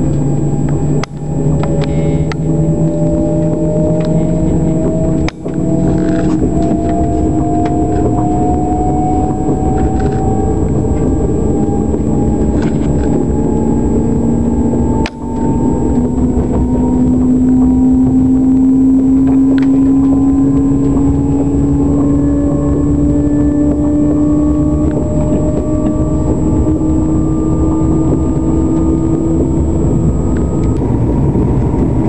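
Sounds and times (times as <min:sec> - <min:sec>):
train motor whine rising: 0:00.0 - 0:32.0
train wheels rumbling on rail: 0:00.0 - 0:32.0.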